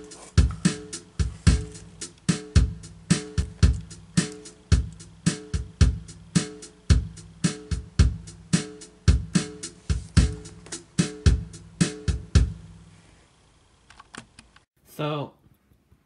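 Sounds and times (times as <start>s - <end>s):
instrumental music with steady beat: 0.0s - 12.9s.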